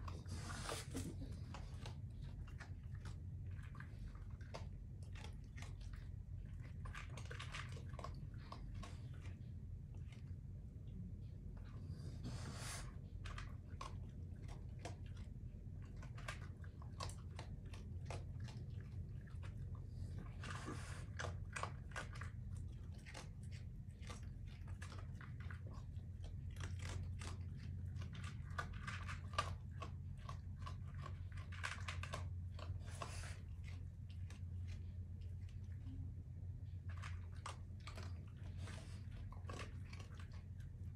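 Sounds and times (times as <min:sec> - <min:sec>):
raccoons crunching dry food: 0:00.0 - 0:10.5, 0:12.0 - 0:40.9
steady low hum: 0:00.0 - 0:40.9.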